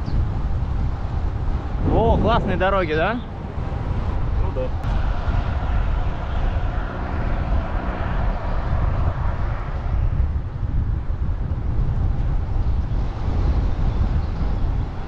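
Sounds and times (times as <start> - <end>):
bicycle tyres humming on tarmac: 0.0 - 15.0
wind rushing over microphone: 0.0 - 15.0.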